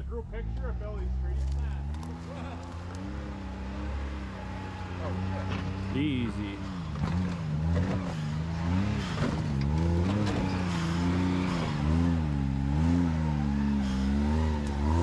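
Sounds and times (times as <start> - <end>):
engine revving in throttle pulses: 0.0 - 15.0.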